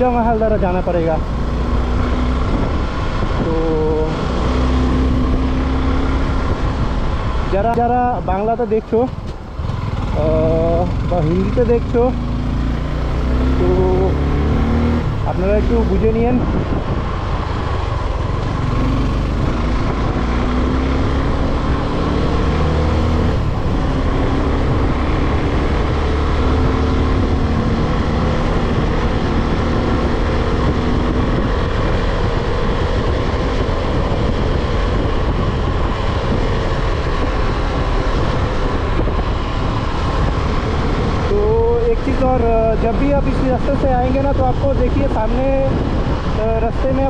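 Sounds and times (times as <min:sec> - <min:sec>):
wind rumble on microphone: 0:00.0 - 0:47.0
motorcycle engine running: 0:08.9 - 0:47.0.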